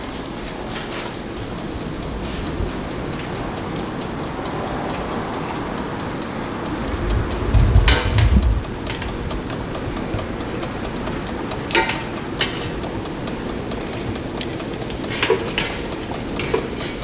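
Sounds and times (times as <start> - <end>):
kitchen appliance fan hiss: 0.0 - 17.0.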